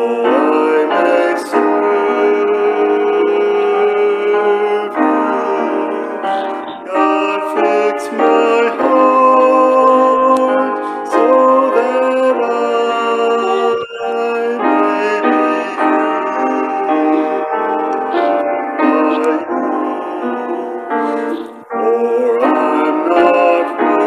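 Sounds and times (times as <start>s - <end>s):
man singing a hymn: 0.0s - 24.0s
piano accompaniment: 0.0s - 24.0s.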